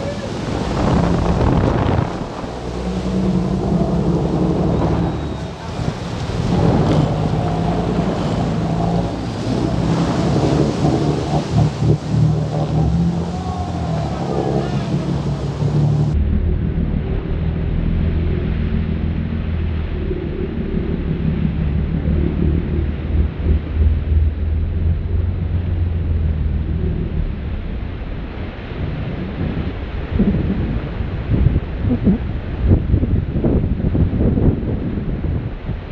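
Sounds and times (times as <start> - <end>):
white water churning: 0.0 - 34.1
boat engines rumbling: 0.0 - 35.9
wind buffeting microphone: 0.0 - 35.9.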